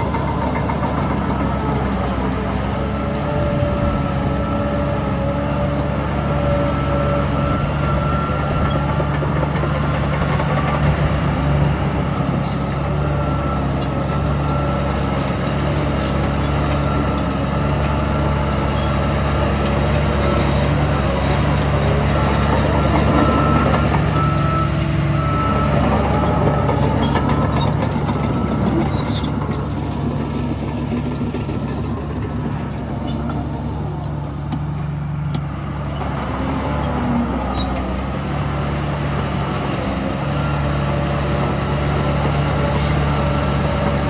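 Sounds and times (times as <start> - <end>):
diesel machinery engine drone: 0.0 - 44.0.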